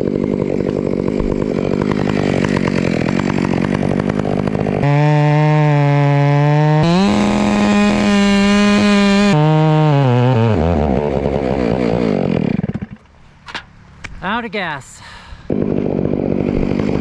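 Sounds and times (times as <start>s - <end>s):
chainsaw cutting wood: 0.0s - 13.2s, 15.5s - 17.0s.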